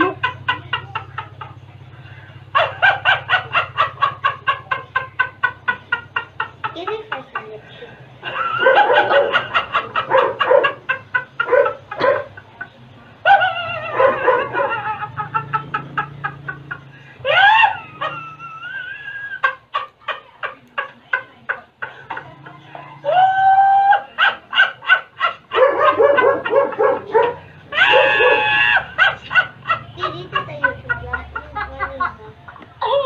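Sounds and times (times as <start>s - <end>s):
man laughing hysterically: 0.0s - 1.6s, 2.5s - 7.5s, 8.2s - 20.6s, 21.8s - 33.0s.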